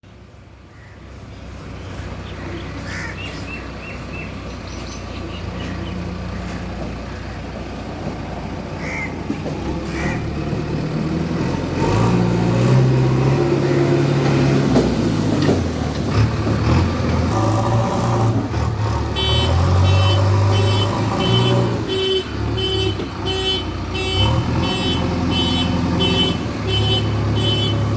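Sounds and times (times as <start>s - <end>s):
heavy diesel engine running: 0.1s - 27.9s.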